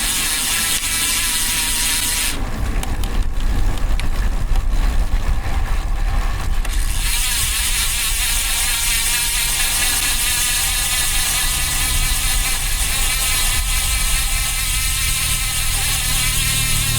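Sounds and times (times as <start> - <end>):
bicycle freewheel buzz: 0.0 - 2.4, 5.2 - 16.9
road noise: 0.0 - 16.9
wind rumble on microphone: 2.4 - 16.9.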